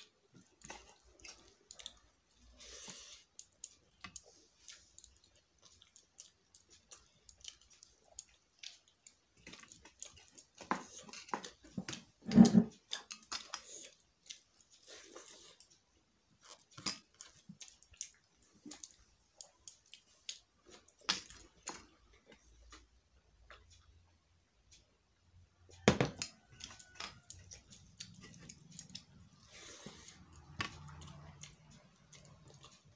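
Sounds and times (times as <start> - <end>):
person chewing: 0.0 - 22.9, 26.3 - 32.9.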